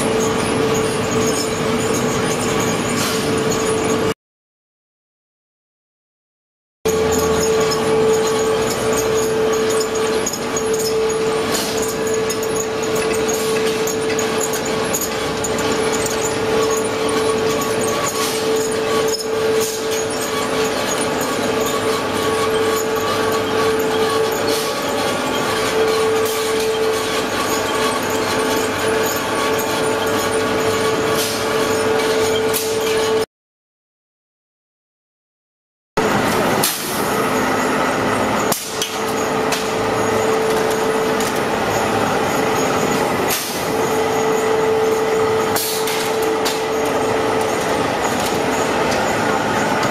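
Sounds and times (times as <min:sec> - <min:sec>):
factory machinery drone: 0:00.0 - 0:04.2, 0:06.9 - 0:33.3, 0:36.0 - 0:49.9.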